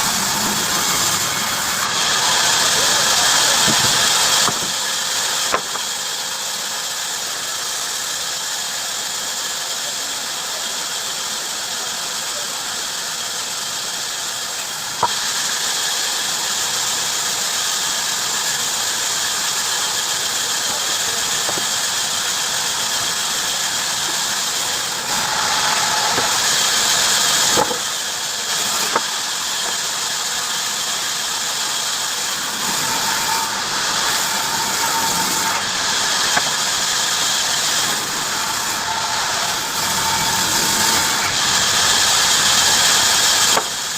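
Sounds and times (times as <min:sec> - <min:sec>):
bandsaw cutting wood: 0:00.0 - 0:09.6, 0:11.1 - 0:43.9.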